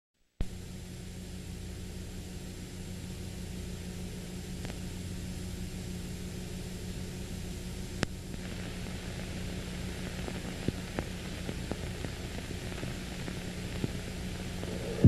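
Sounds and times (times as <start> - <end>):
low electrical hum: 0.3 - 15.0
steady hiss: 0.4 - 15.0.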